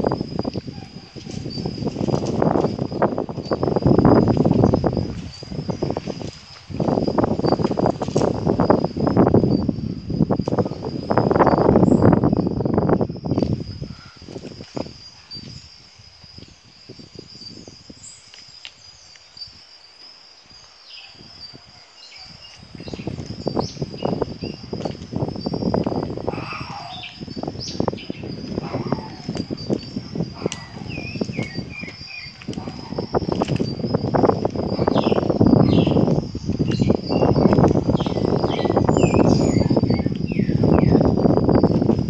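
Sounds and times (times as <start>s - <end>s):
high-pitched insect trill: 0.0s - 42.0s
steady high-pitched whine: 0.0s - 42.0s.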